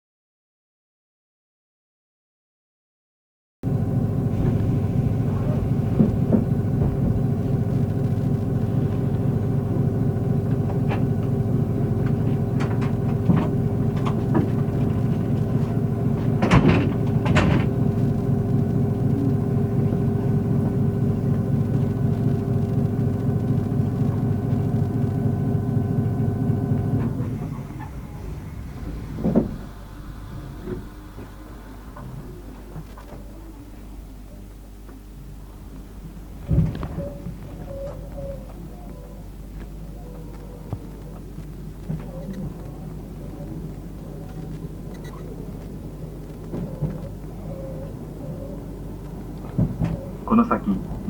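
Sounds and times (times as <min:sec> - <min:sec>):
train rumble inside carriage: 0:03.6 - 0:51.0.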